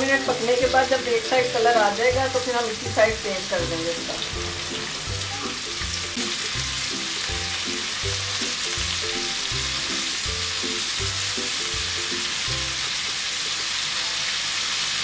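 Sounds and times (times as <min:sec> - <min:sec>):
background music with bass line: 0:00.0 - 0:12.9
meat sizzling in oil: 0:00.0 - 0:15.0.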